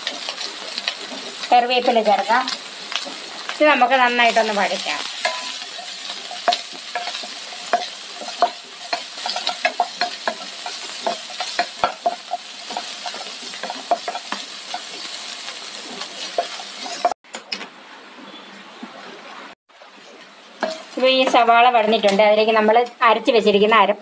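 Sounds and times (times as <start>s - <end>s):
vegetables sizzling in hot oil: 0.0s - 17.2s, 20.1s - 23.9s.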